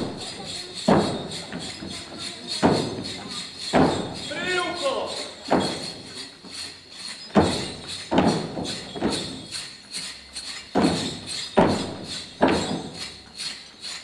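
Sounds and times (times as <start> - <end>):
feet stamping: 0.0 - 14.0.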